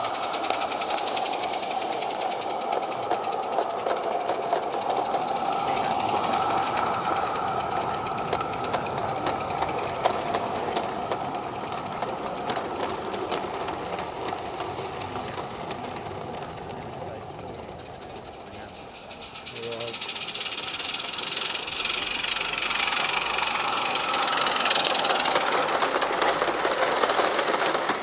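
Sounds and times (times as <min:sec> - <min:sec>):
small steam locomotive beat: 0:00.0 - 0:28.0
wagons clattering on track: 0:00.0 - 0:28.0.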